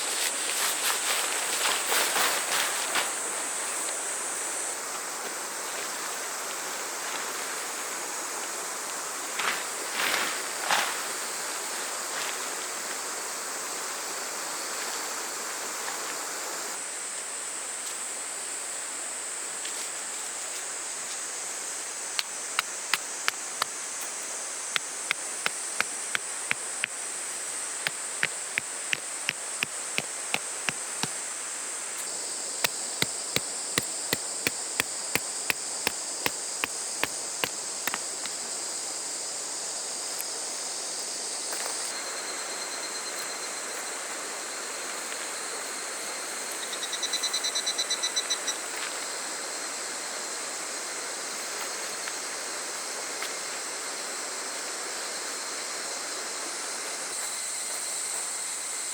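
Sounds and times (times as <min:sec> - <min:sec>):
cicadas droning: 0:00.0 - 0:58.9.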